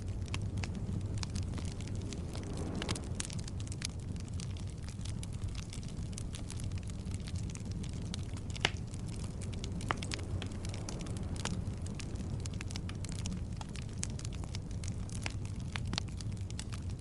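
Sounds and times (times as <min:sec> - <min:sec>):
rumble of fire: 0:00.0 - 0:17.0
wood crackling and popping: 0:00.0 - 0:17.0.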